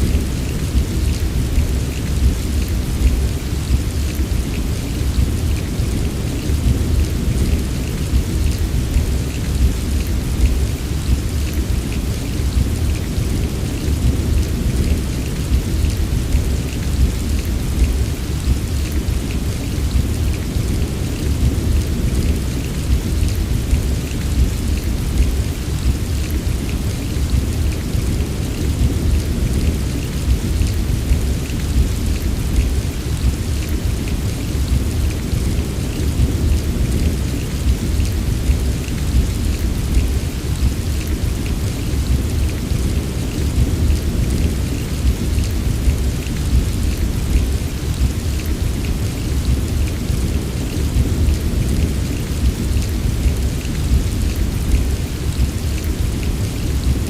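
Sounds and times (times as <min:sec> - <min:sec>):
heavy rain: 0:00.0 - 0:57.0
raindrops pattering: 0:00.0 - 0:57.0.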